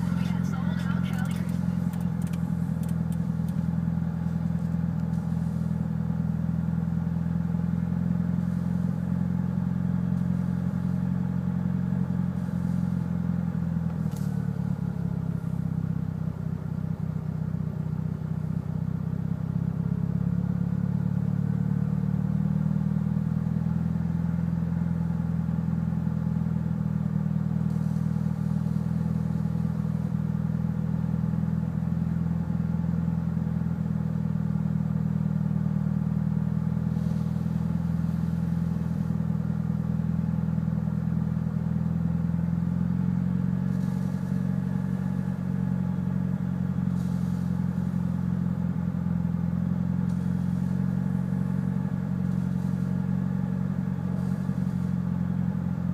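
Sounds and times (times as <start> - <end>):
car engine rough idle: 0.0 - 55.9.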